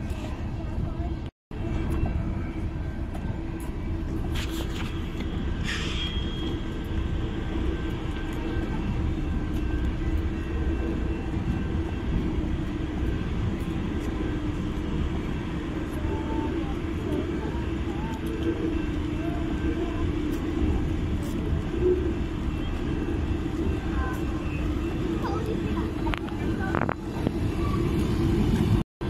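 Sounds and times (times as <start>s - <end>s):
freight train rumbling past: 0.0s - 28.8s.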